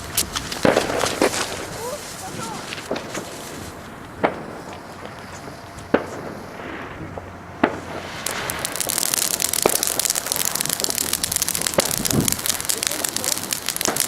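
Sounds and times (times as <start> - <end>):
firecracker fuse fizzing: 0.0 - 7.0, 7.7 - 14.0.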